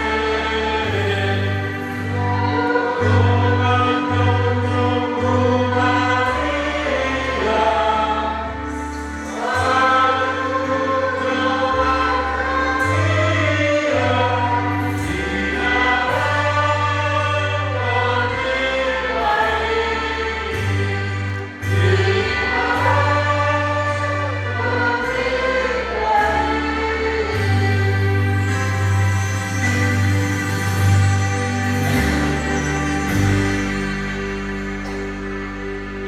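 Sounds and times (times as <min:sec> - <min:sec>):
group singing a hymn: 0:00.0 - 0:36.0
sustained low bass notes: 0:00.0 - 0:36.0.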